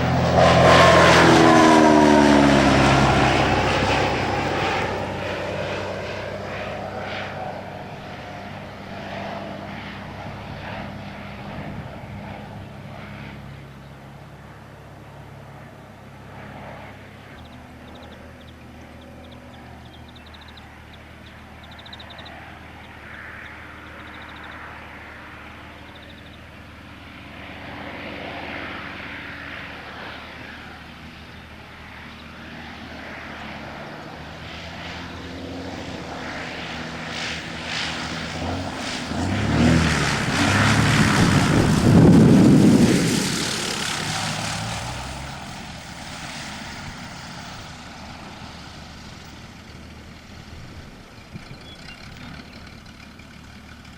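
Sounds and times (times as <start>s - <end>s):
propeller plane flying past: 0.0s - 53.9s.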